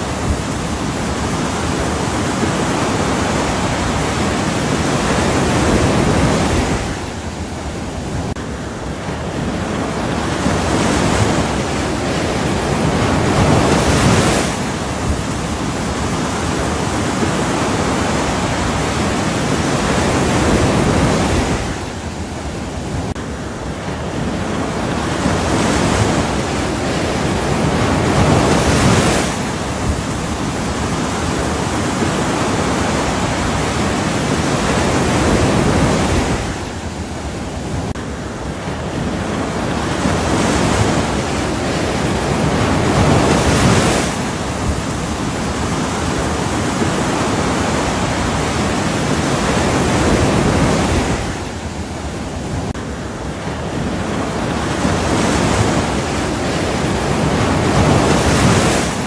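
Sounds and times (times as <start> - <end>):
ocean waves surf: 0.0 - 59.0.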